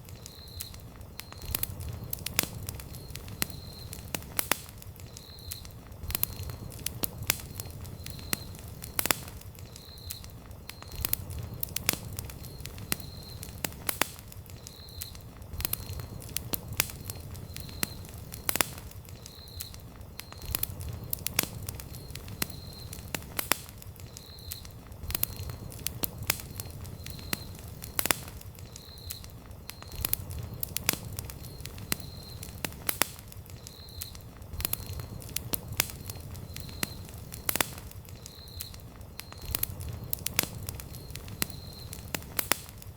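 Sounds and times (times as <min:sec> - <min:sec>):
campfire crackling and popping: 0:00.0 - 0:42.9
low rumble of flame: 0:00.0 - 0:42.9.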